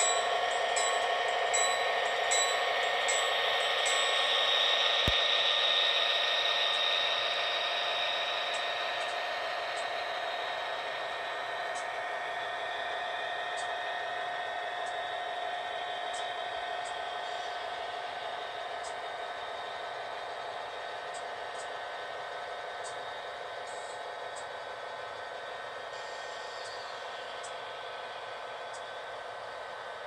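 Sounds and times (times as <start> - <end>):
train rolling on rails: 0.0 - 30.0.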